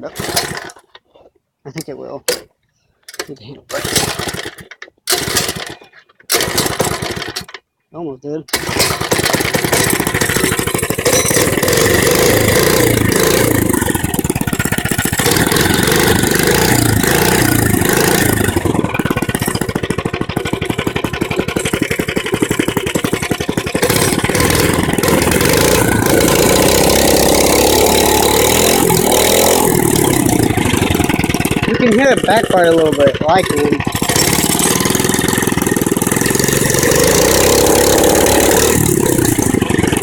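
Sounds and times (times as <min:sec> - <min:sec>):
engine backfiring: 0:00.0 - 0:00.8, 0:03.2 - 0:07.5, 0:08.5 - 0:40.0
mini bike engine revving: 0:00.0 - 0:00.9, 0:03.1 - 0:07.6, 0:08.5 - 0:40.0.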